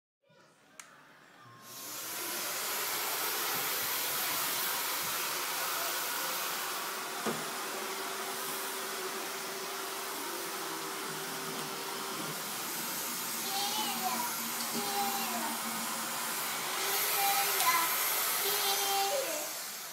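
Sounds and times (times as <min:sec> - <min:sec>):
vacuum cleaner motor running: 0:01.6 - 0:19.9.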